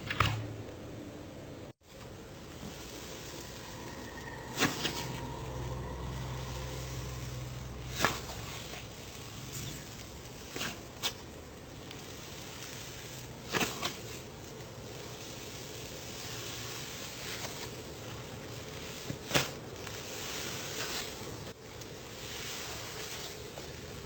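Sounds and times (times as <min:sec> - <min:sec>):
slime crackling hiss: 0:02.2 - 0:24.0.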